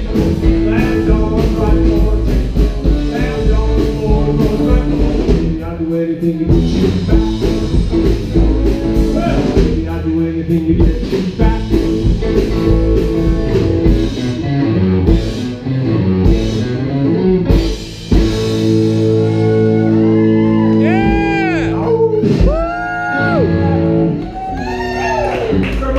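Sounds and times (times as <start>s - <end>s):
rockabilly band playing: 0.0s - 25.9s.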